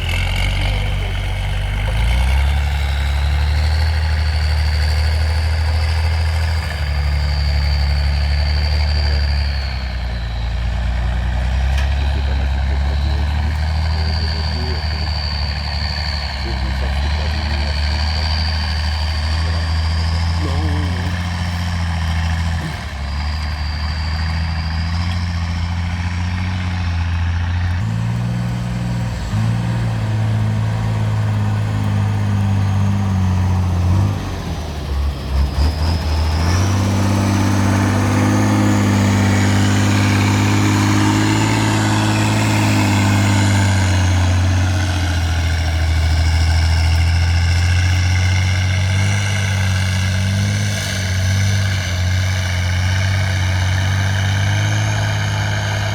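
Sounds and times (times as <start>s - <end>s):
truck engine revving: 0.0s - 55.9s.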